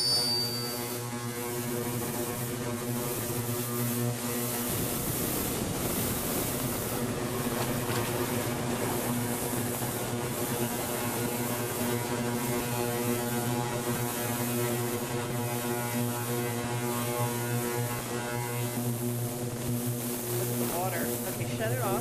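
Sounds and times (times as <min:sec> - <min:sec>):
constant hiss: 0:00.0 - 0:22.0
ultrasonic cleaner humming: 0:00.0 - 0:22.0.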